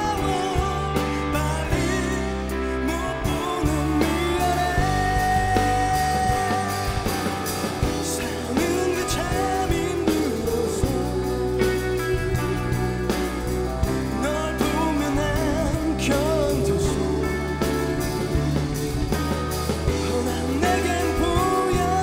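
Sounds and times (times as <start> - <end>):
band playing live: 0.0 - 22.0
bass and guitar accompaniment: 0.0 - 22.0
man singing: 0.0 - 22.0.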